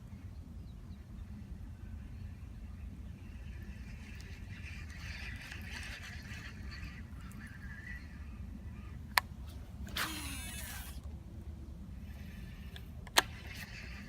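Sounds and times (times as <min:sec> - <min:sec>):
warbling bird calls: 0:00.0 - 0:11.0, 0:11.9 - 0:14.0.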